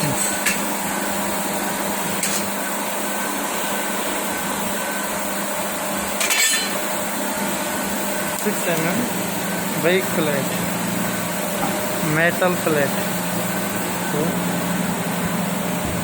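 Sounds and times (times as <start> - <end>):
machinery hissing and humming: 0.0 - 16.0.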